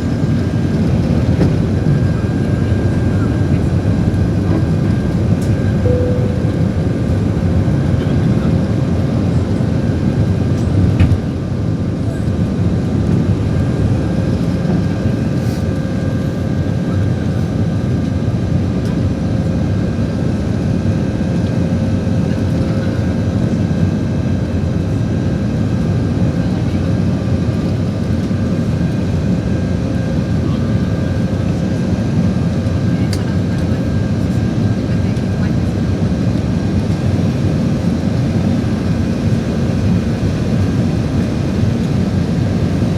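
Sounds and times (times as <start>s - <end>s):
airplane cabin engine noise: 0.0s - 42.9s
jet engine whines: 0.0s - 42.9s.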